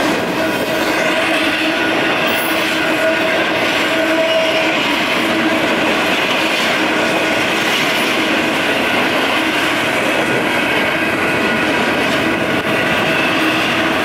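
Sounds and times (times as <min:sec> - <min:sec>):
steel wheels rushing on rails: 0:00.0 - 0:14.0.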